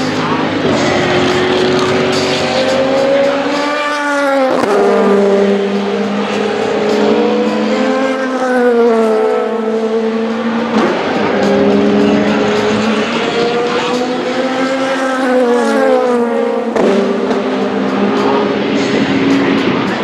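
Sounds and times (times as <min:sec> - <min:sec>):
race car engines on track: 0:00.0 - 0:20.0.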